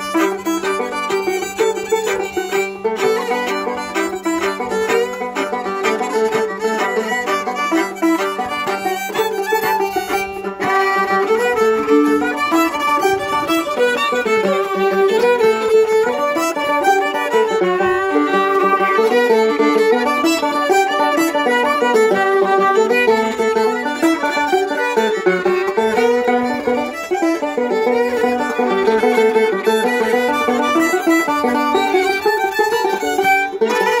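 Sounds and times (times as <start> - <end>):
banjo plucking: 0.0 - 34.0
fiddles playing folk tune: 0.0 - 34.0.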